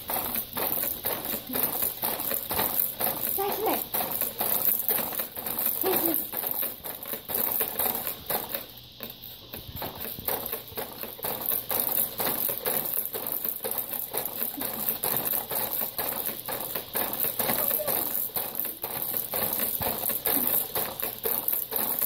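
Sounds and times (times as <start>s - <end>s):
baby jumper rattling and clicking: 0.0s - 22.0s.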